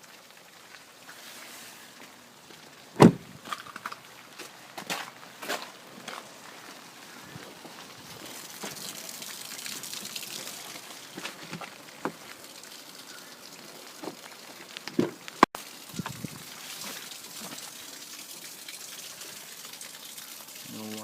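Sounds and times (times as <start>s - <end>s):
water pouring and splashing: 0.0s - 21.0s.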